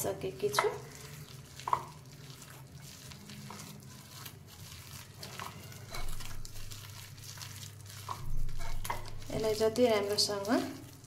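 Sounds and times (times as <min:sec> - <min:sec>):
hand squishing paste in a bowl: 0:00.0 - 0:11.0.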